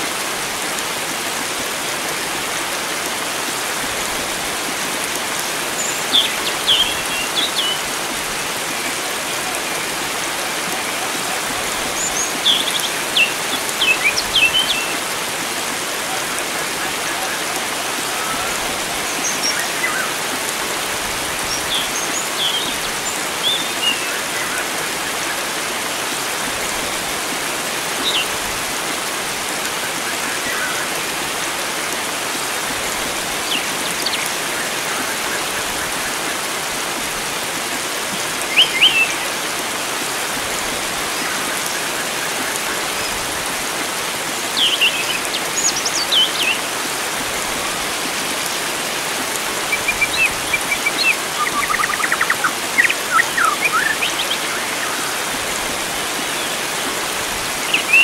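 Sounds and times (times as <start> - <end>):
flowing water rushing: 0.0 - 58.0
wild birds chirping and trilling: 2.1 - 29.0, 29.8 - 37.4, 38.2 - 58.0.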